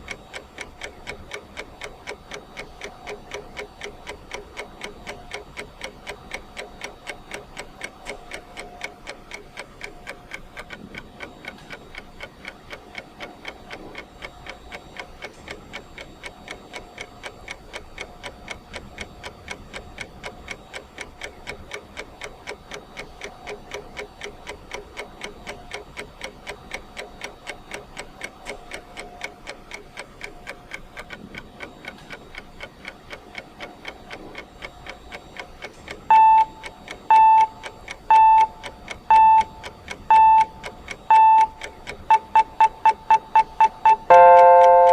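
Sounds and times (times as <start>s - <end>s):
countdown timer ticking: 0.0s - 44.9s.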